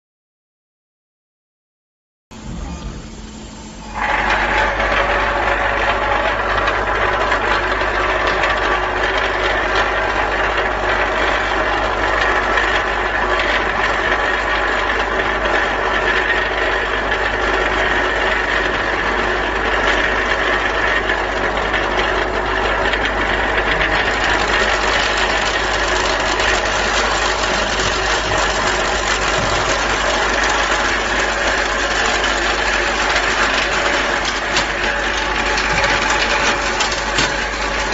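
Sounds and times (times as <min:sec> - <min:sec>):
vibratory bowl feeder humming: 0:02.3 - 0:37.9.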